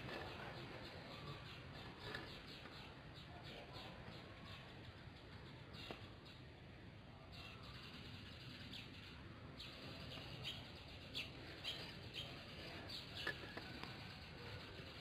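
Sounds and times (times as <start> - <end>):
faint bird chirps: 0.0 - 15.0
quiet background hum: 0.0 - 15.0.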